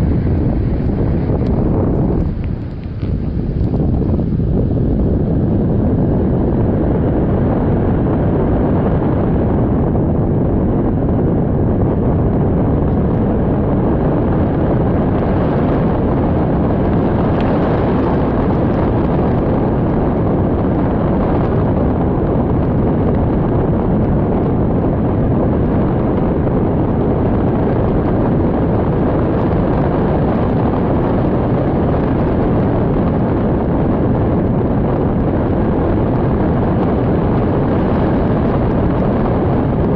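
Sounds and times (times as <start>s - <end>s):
wind blowing across microphone: 0.0s - 39.9s.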